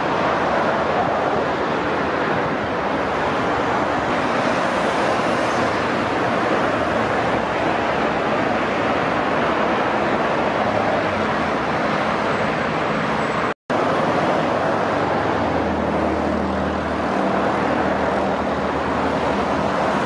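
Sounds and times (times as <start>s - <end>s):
distant road traffic: 0.0s - 20.0s.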